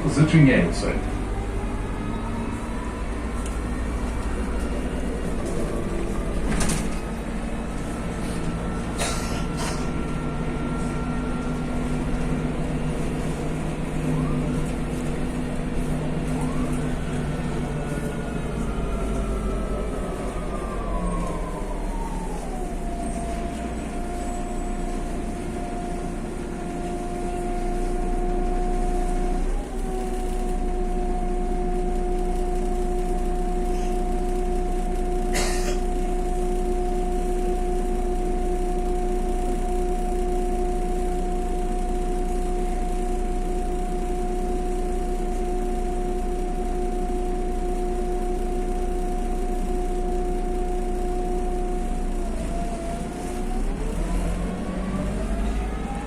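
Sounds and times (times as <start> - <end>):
bus engine and drivetrain whine: 0.0 - 56.0.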